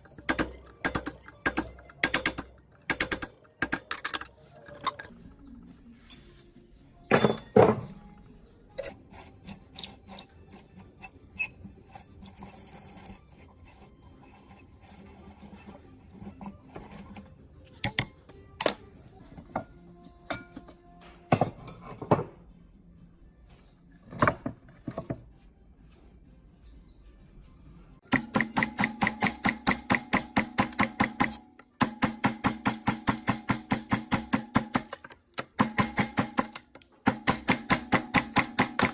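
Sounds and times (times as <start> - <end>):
tools and metal parts clunking: 0.0 - 13.3, 14.3 - 22.6, 23.4 - 25.4, 28.0 - 32.3, 34.6 - 38.9
faint background music: 0.0 - 38.9.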